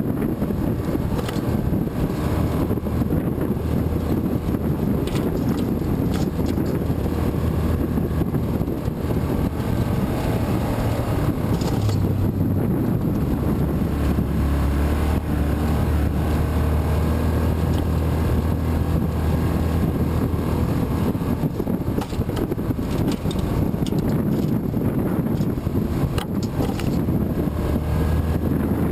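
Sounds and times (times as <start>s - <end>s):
off-road vehicle engine running: 0.0s - 28.9s.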